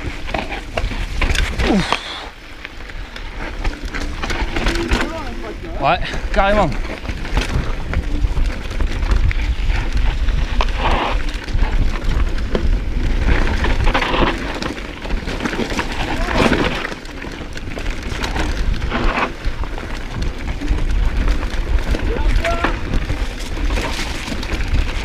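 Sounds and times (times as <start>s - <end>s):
bike rattling over bumps: 0.0s - 25.0s
tyres crunching over gravel: 0.0s - 25.0s
wind rumble on microphone: 0.0s - 25.0s.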